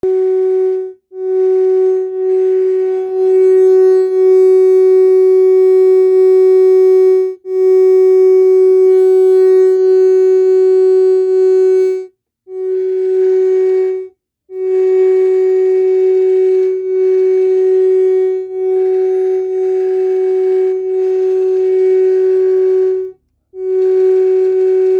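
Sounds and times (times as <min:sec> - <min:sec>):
speaker droning tone: 0:00.0 - 0:24.9.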